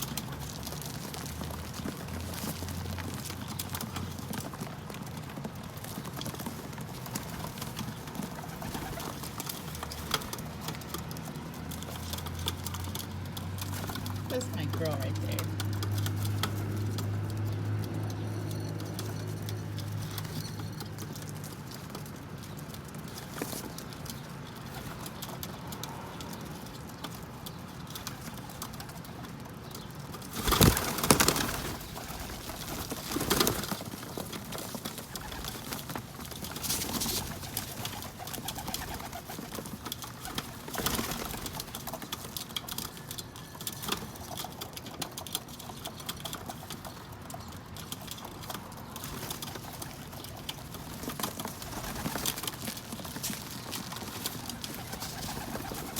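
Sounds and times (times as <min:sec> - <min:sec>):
pigeons cooing: 0:00.0 - 0:55.9.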